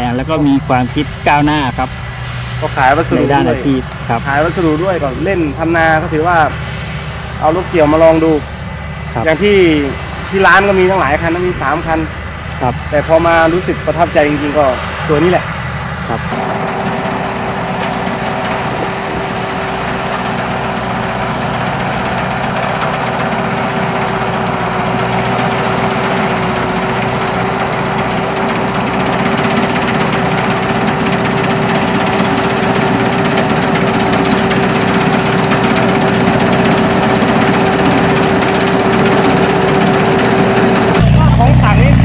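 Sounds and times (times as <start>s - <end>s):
combine harvester engine droning: 0.0s - 42.0s.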